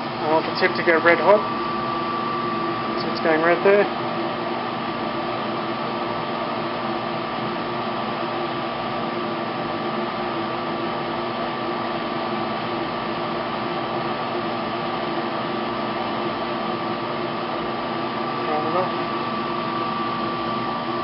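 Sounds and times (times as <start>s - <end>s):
cabinet blower running: 0.0s - 21.0s.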